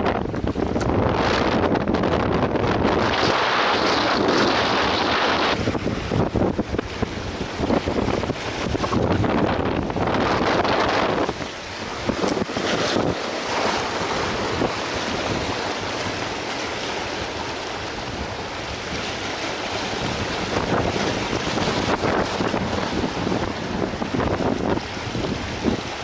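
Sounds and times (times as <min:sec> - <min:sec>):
waves splashing against rocks: 0:00.0 - 0:26.0
wind buffeting microphone: 0:00.0 - 0:26.0.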